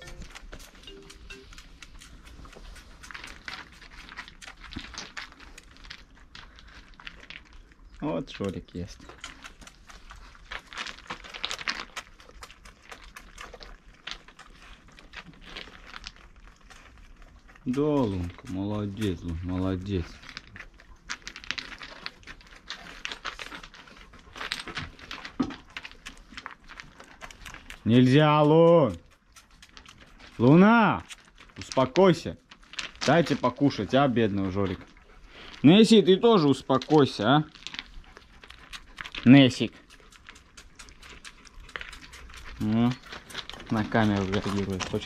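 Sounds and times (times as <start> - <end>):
goat kid suckling from bottle: 0.0 - 45.0.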